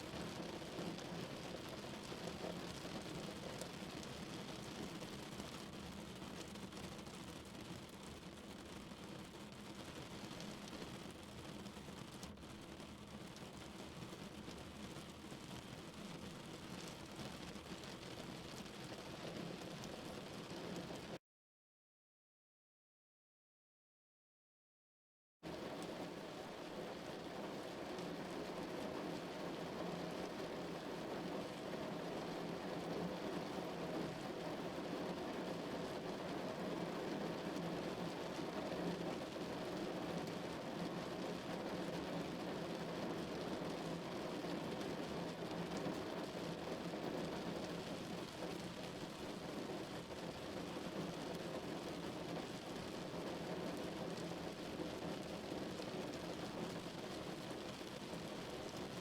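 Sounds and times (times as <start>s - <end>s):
rain on car roof muffled: 0.0s - 21.2s, 25.5s - 59.0s.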